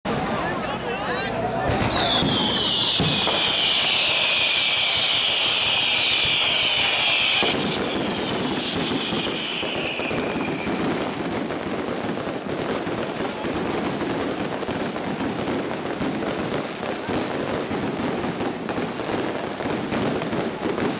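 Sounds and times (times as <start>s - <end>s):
fireworks exploding: 1.6s - 20.9s.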